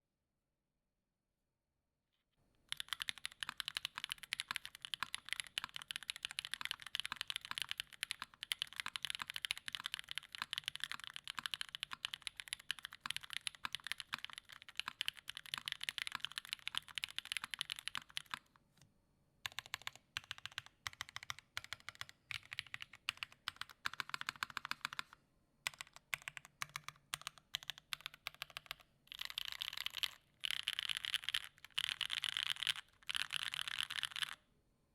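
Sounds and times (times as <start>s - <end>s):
mechanical keyboard typing: 2.7s - 18.5s, 19.4s - 34.4s.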